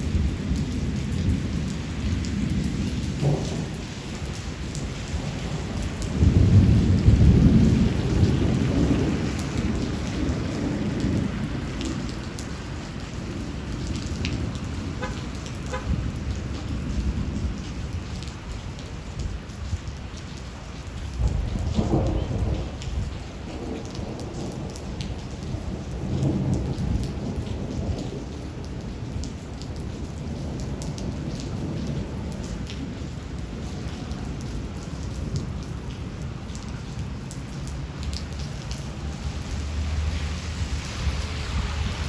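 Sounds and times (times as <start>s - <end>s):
rolling thunder: 0.0s - 42.0s
steady rain: 0.0s - 42.0s.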